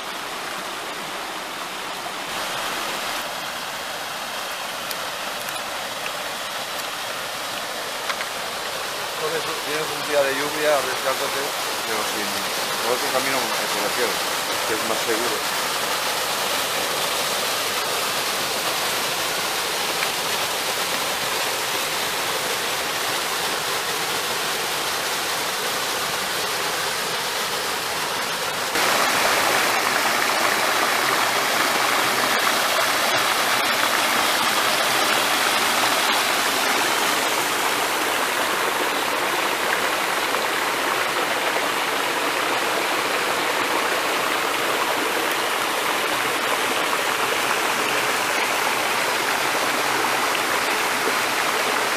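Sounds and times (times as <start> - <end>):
waterfall rushing over rocks: 0.0 - 51.9.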